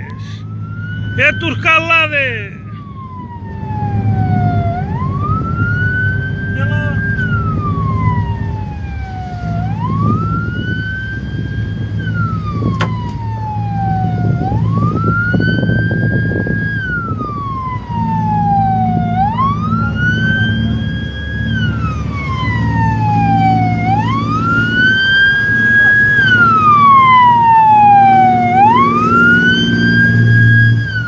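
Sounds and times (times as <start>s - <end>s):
boat engine humming: 0.0s - 31.0s
boat siren wailing: 0.0s - 31.0s.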